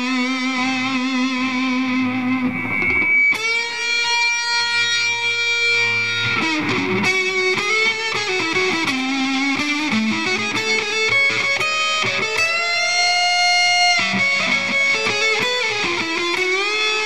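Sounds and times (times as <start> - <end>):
fuzzed electric guitar notes: 0.0 - 17.0.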